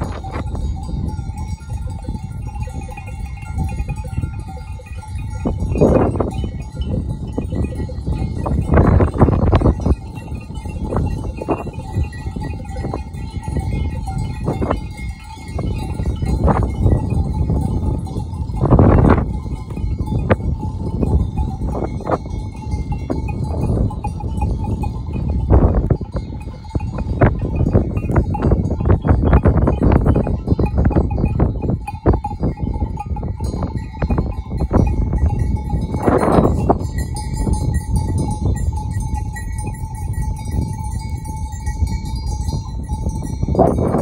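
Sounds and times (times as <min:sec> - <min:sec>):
sheep bells clanking: 0:00.0 - 0:44.0
wind rumble on microphone: 0:00.0 - 0:44.0.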